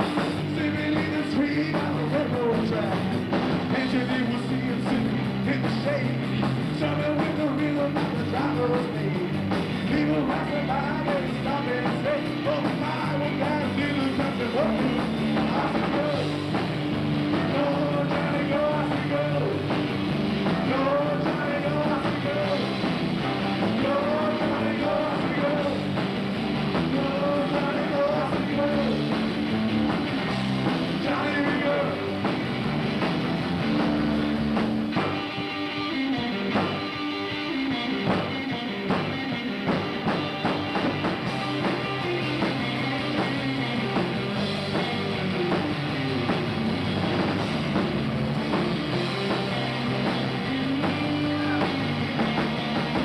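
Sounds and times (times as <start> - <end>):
live rock band playing: 0.0 - 53.0
wavering lead guitar line: 0.0 - 53.0.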